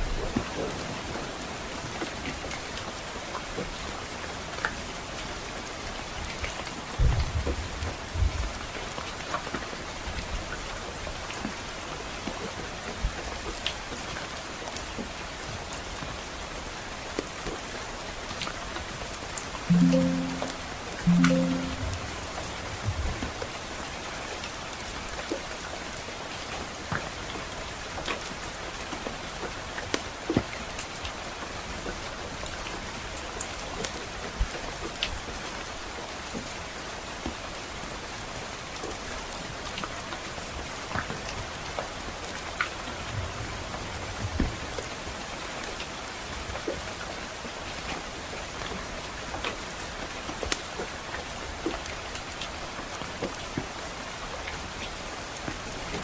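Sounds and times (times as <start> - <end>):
soft rain hiss: 0.0 - 56.0.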